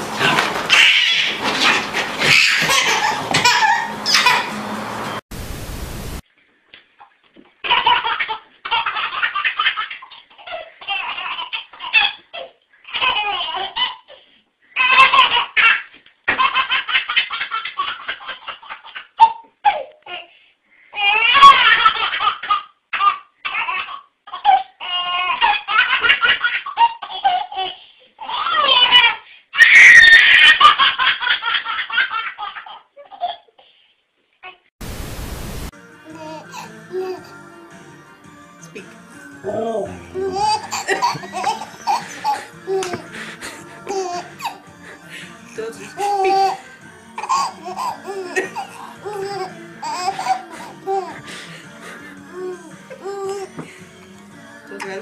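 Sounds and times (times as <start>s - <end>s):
babies laughing: 0.2s - 4.6s, 7.6s - 20.0s, 21.0s - 33.5s, 36.1s - 37.8s, 38.7s - 53.8s.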